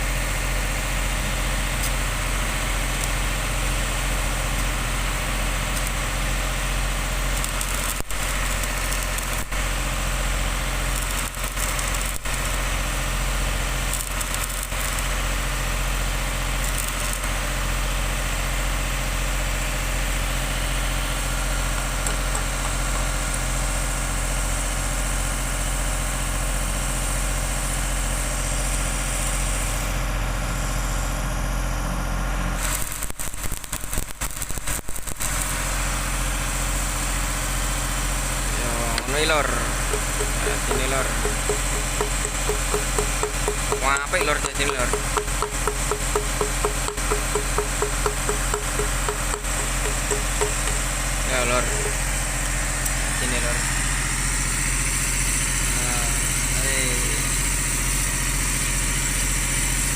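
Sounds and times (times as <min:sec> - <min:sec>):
welding machine mains hum: 0:00.0 - 0:59.9
welding arc crackling hiss: 0:00.1 - 0:29.9, 0:32.6 - 0:59.9.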